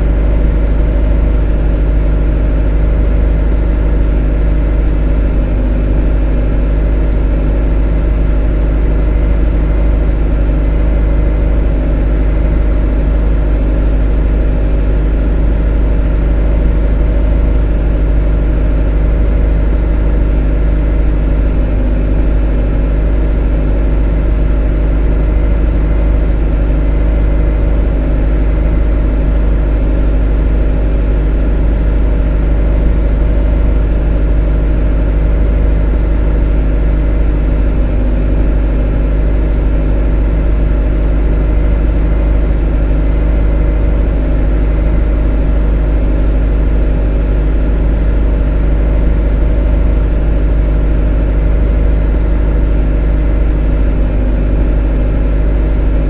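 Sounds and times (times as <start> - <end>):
motor rumbling steadily: 0.0 - 56.0.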